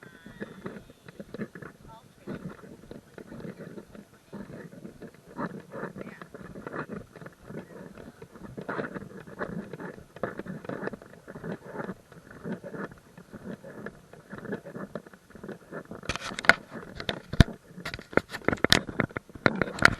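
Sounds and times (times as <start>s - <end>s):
footsteps crunching on trail: 0.0s - 19.9s
sharp clicks and crackles: 0.0s - 19.9s.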